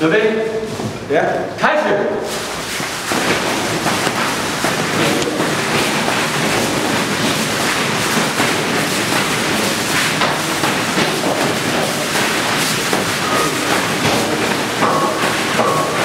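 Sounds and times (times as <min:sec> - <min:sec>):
steady noisy din: 0:00.0 - 0:16.0
battle ropes slapping the floor: 0:02.2 - 0:16.0.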